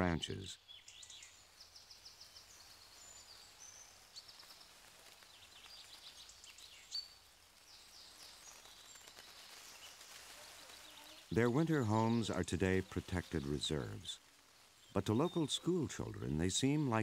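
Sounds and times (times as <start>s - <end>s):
small birds chirping: 0.0s - 17.0s
soft hiss: 0.2s - 17.0s.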